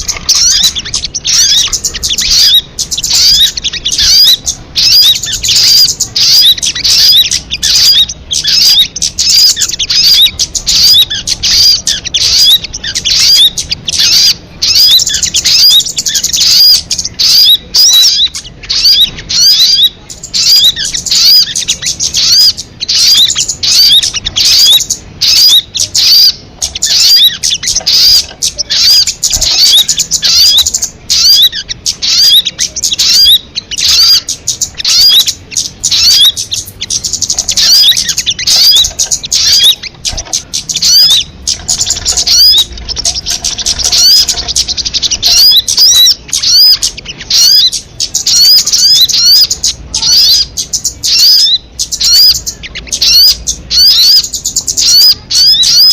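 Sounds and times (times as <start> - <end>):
bird twittering: 0.0 - 55.9.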